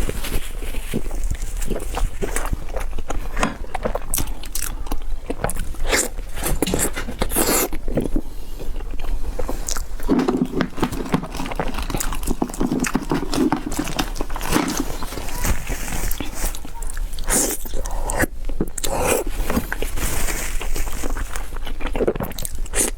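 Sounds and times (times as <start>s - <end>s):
person chewing and biting: 0.9s - 15.4s, 16.0s - 22.9s.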